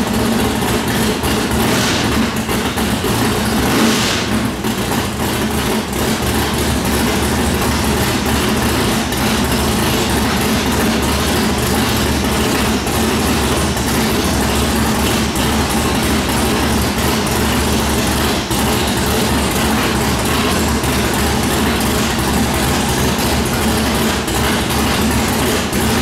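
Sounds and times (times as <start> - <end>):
car engine idling loudly: 0.0 - 26.0.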